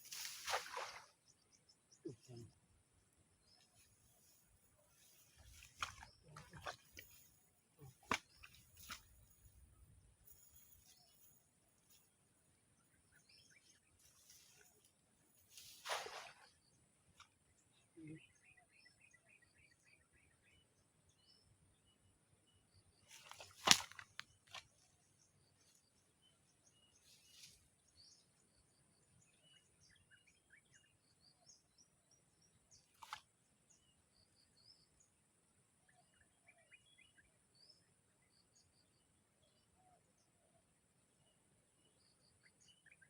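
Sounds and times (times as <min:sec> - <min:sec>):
small birds chirping: 0:00.0 - 0:35.2.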